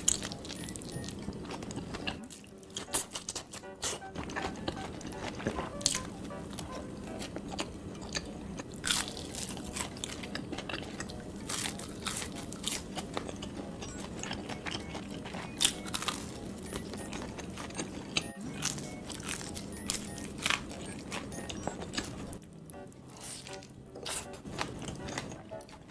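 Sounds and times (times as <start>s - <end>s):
chewing crunchy food: 0.0s - 25.9s.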